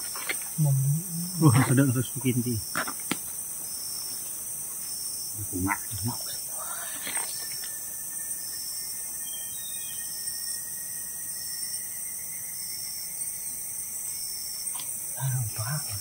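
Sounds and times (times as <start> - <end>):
forest insects chorus: 0.0 - 16.0.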